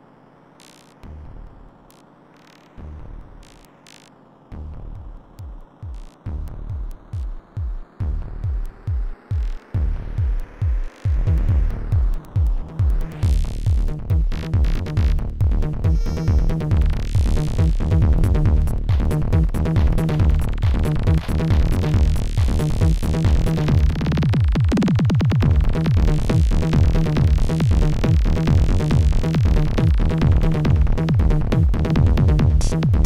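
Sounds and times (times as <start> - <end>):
electronic music with driving beat: 0.0 - 33.0.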